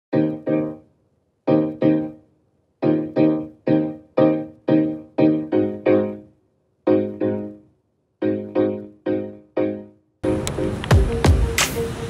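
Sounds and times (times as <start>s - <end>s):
piano chords: 0.1s - 12.0s.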